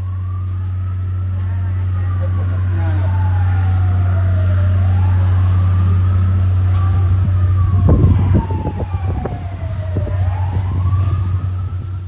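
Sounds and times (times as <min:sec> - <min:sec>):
fire engine siren wailing: 0:00.0 - 0:12.0
low rumble: 0:00.0 - 0:12.0.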